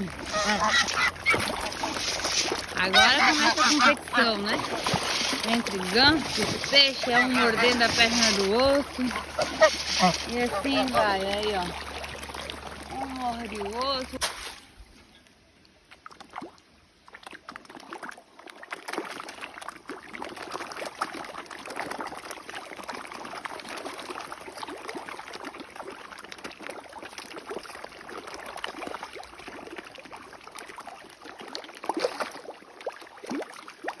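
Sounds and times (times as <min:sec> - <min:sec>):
splashes at water surface: 0:00.0 - 0:14.8, 0:16.1 - 0:34.0.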